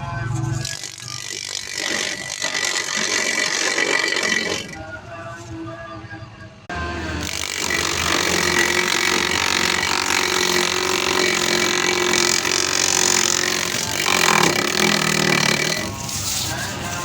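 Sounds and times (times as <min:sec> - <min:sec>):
grass chopper motor whirring: 0:00.4 - 0:04.8, 0:06.7 - 0:17.0.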